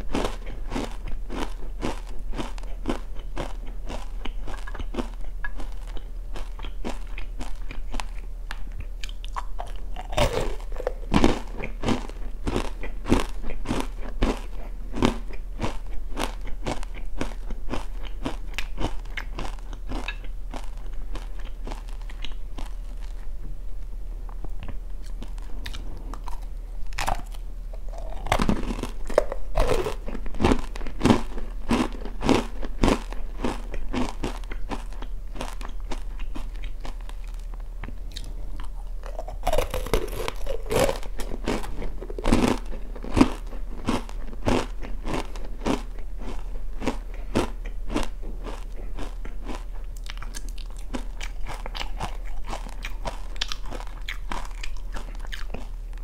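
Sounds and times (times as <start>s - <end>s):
crunching and chewing snack: 0.0s - 23.5s, 24.3s - 56.0s.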